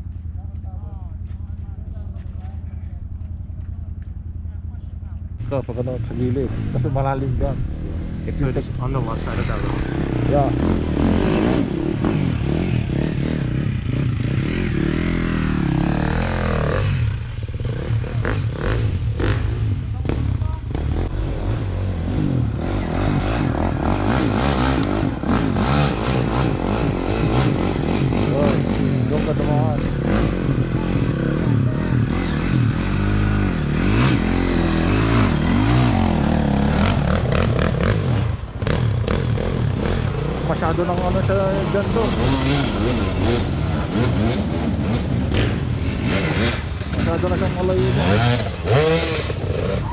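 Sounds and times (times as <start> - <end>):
dirt bike engine revving: 5.4 - 49.9.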